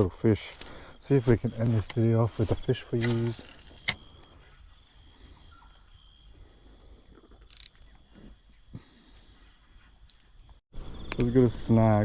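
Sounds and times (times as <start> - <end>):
insect chorus drone: 0.2 - 12.0.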